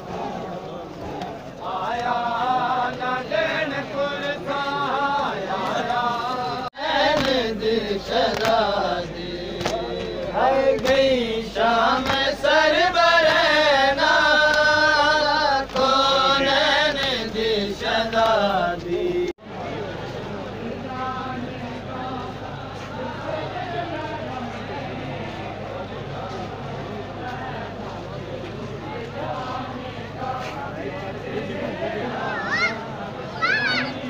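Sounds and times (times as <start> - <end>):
men chanting a lament: 0.0 - 34.0.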